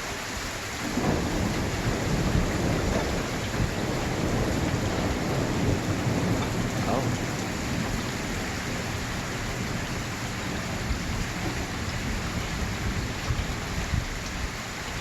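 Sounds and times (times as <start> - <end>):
steady rain: 0.0 - 15.0
low thunder rumble: 0.8 - 14.6.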